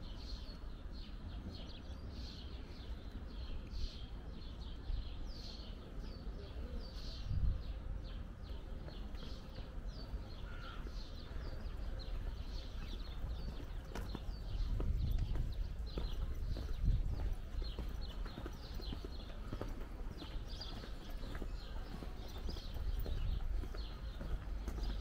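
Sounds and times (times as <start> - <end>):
low city rumble: 0.0 - 25.0
small birds chirping: 0.0 - 25.0.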